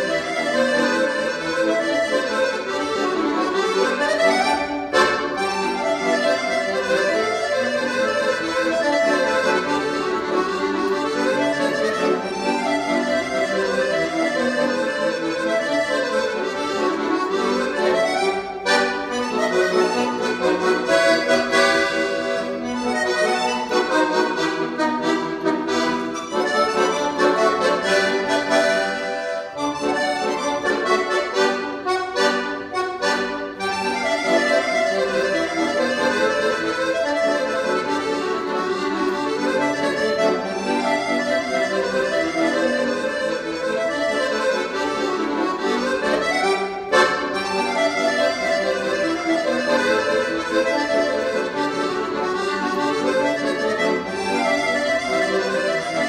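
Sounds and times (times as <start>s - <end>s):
piano accordion playing: 0.0s - 56.0s.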